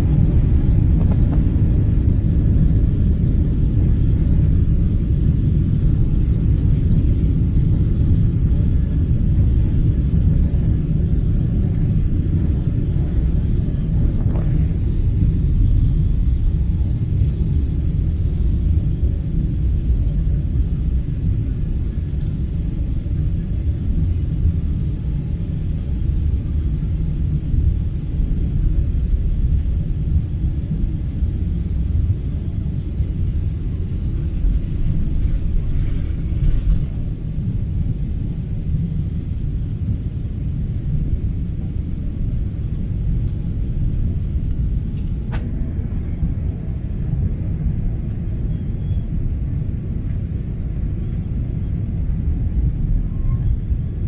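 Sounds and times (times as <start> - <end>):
jet engines rumbling: 0.0 - 54.0.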